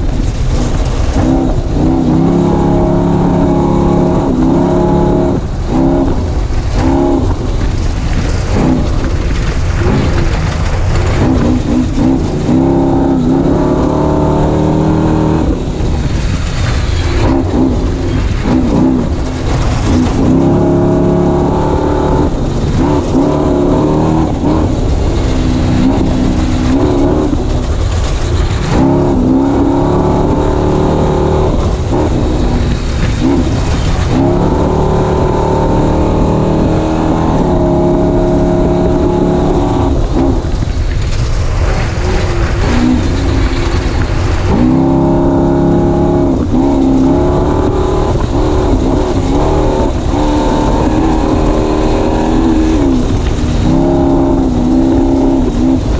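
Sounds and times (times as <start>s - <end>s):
heavy rumble over rough ground: 0.0s - 55.9s
race vehicle engine revving: 0.0s - 55.9s.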